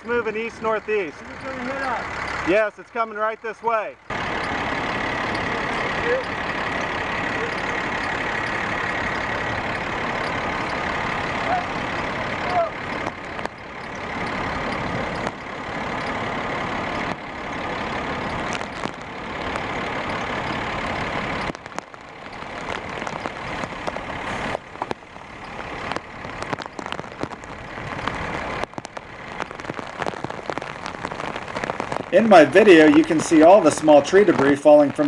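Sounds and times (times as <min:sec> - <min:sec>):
rain and debris tapping: 0:03.6 - 0:35.0.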